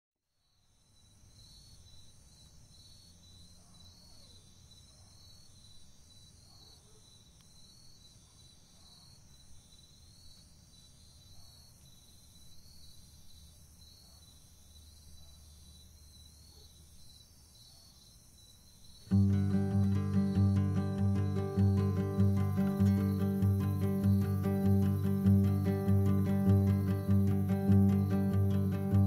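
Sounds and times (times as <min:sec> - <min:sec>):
crickets trilling: 0:00.4 - 0:29.0.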